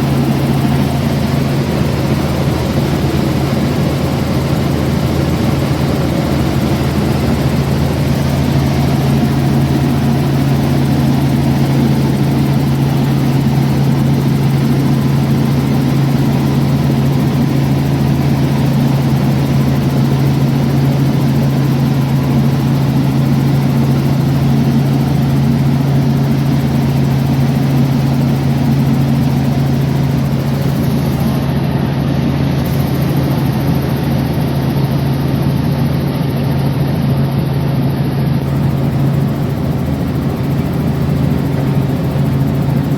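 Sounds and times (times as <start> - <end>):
light aircraft engine humming: 0.0 - 42.9.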